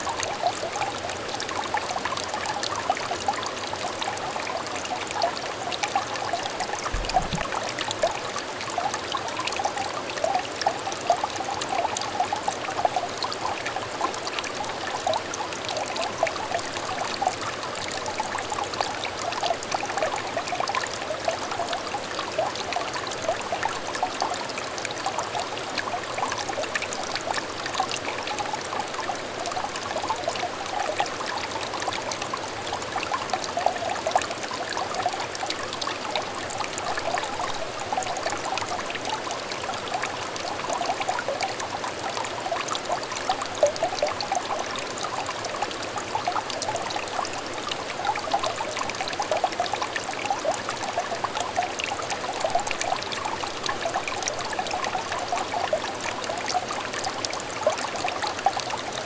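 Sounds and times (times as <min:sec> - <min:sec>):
stream trickling and babbling: 0:00.0 - 0:59.0.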